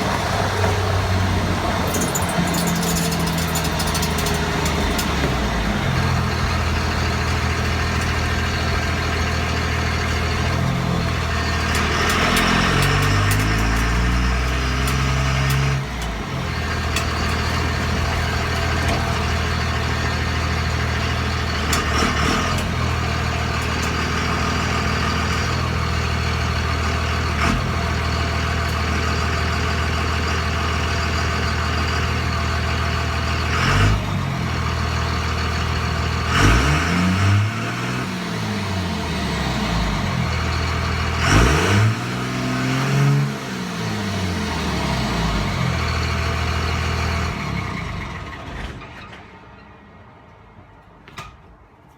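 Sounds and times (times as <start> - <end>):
diesel engine running: 0.0 - 48.8.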